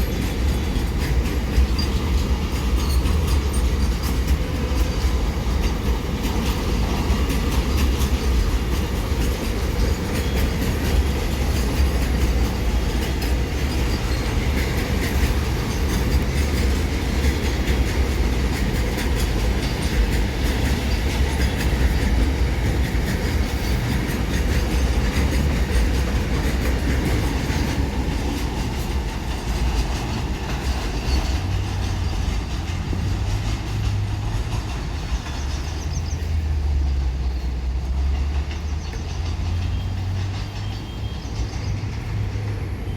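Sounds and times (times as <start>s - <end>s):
freight train wagons rumbling: 0.0s - 42.9s
wheels clicking over rail joints: 0.0s - 42.9s.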